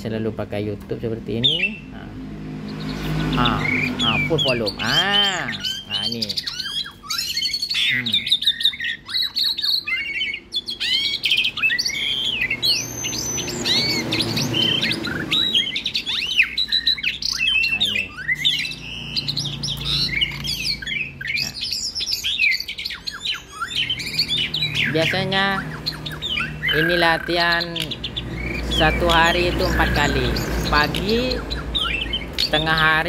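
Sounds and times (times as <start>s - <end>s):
recorded birdsong: 0.0s - 33.0s
starling calling: 0.0s - 33.0s.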